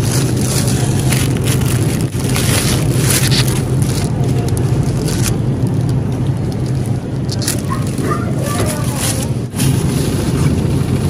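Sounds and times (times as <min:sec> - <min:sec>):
plastic wrap crinkling: 0:00.0 - 0:11.0
refrigerated display humming: 0:00.0 - 0:11.0.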